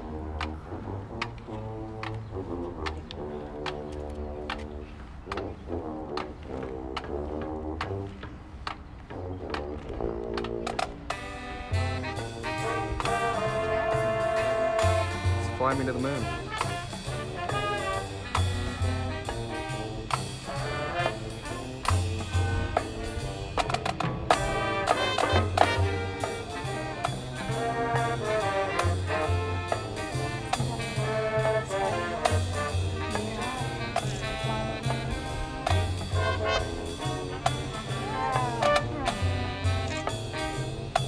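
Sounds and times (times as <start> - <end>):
brass chords: 0.0 - 41.0
marching drum line: 0.0 - 41.0.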